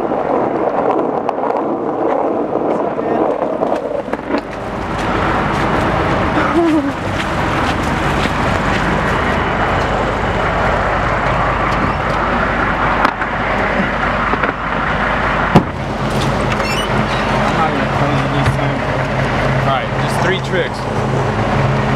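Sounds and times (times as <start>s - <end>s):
skateboard wheels rolling on asphalt: 0.0s - 21.9s
vehicles idling: 3.6s - 21.9s.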